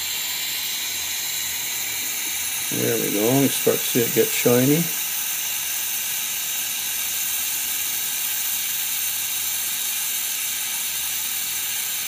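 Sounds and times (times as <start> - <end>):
gas welding torch flame hissing: 0.0 - 12.0.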